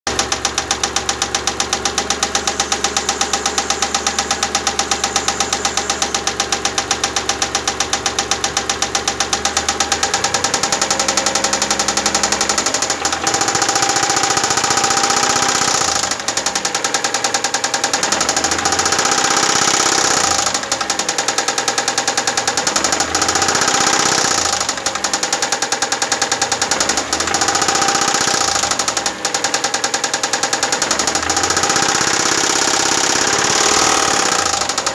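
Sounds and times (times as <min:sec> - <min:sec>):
engine knocking: 0:00.1 - 0:34.9
engine revving: 0:00.1 - 0:34.9.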